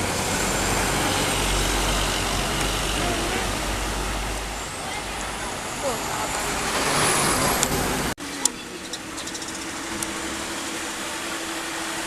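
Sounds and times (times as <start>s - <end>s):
steady engine hum: 0.0s - 12.0s
vehicle passing: 0.0s - 12.0s.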